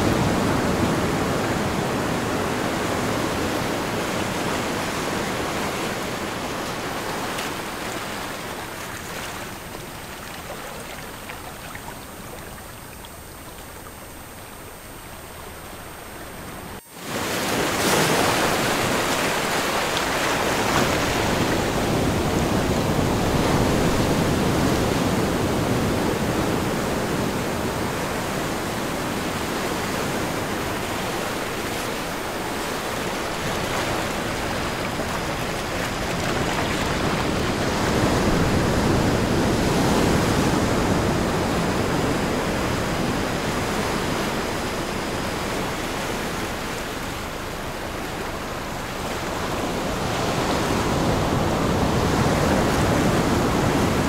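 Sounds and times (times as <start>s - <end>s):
ocean waves: 0.0s - 54.0s.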